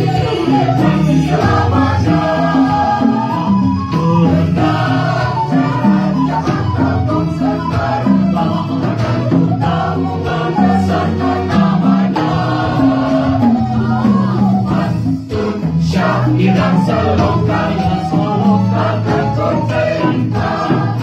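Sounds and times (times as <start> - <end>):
mixed choir singing in parts: 0.0 - 21.0.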